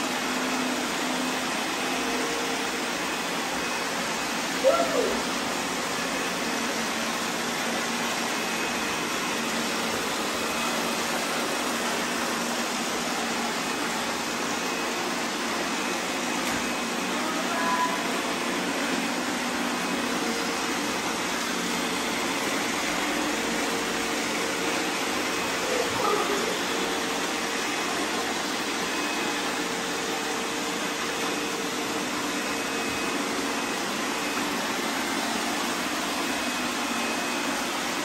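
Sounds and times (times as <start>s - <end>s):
robot vacuum cleaners humming: 0.0s - 38.0s.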